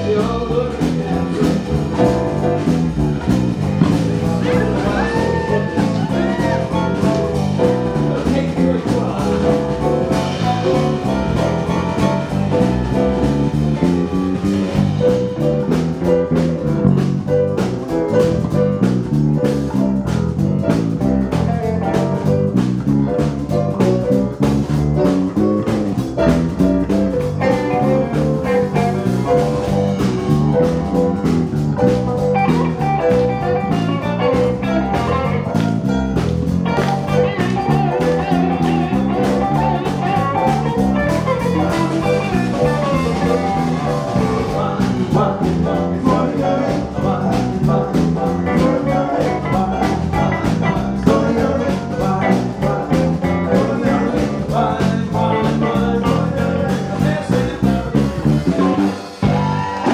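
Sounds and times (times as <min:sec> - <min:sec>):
keyboard: 0:00.0 - 0:59.9
live blues band playing: 0:00.0 - 0:59.9
steady drum beat: 0:00.0 - 0:59.9.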